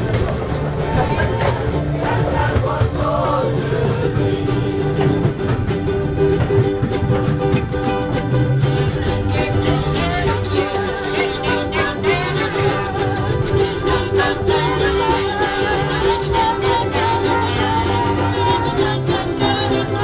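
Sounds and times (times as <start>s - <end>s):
many voices singing along: 0.0s - 5.6s, 8.8s - 20.0s
ukuleles strummed together: 0.0s - 20.0s.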